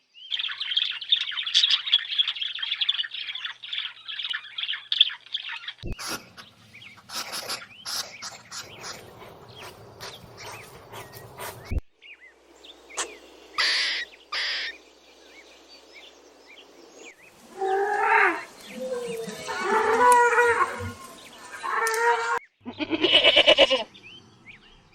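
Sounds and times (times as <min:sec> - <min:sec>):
small birds chirping: 0:00.0 - 0:24.9
harsh bird calls: 0:00.3 - 0:24.9.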